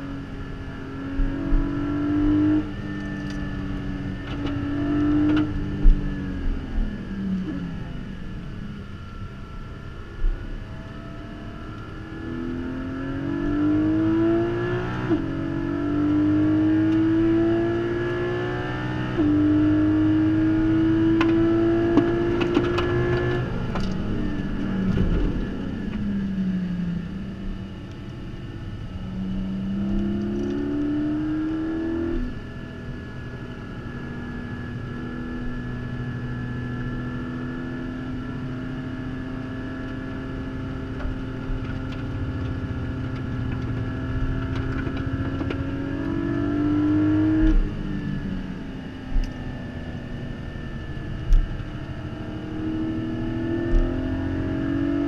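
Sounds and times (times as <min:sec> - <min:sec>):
car engine revving through gearshifts: 0:00.0 - 0:07.9, 0:10.8 - 0:28.0, 0:29.0 - 0:55.0.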